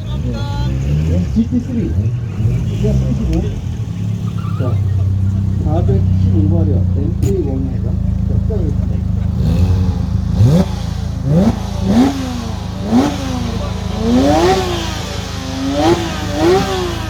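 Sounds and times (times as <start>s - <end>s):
car engine revving over idle: 0.0s - 17.0s.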